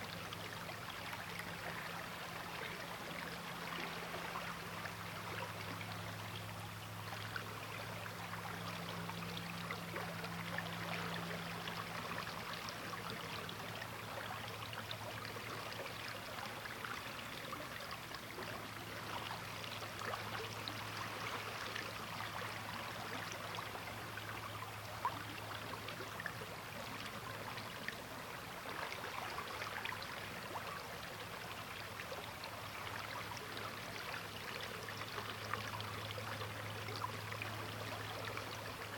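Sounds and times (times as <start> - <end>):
faint low hum: 0.0 - 38.9
river water flowing: 0.0 - 38.9.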